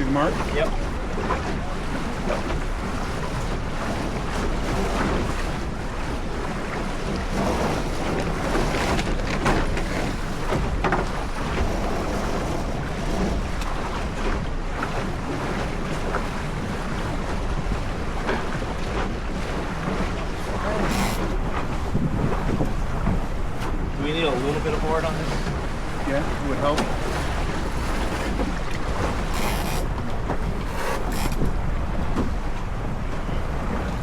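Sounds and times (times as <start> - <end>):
water rushing along hull: 0.0 - 34.0
water splashes: 0.0 - 34.0
wind buffeting microphone: 0.0 - 34.0.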